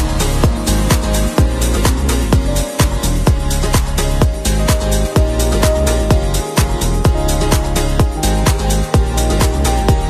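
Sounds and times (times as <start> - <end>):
music with deep kick drum beat: 0.0 - 10.0.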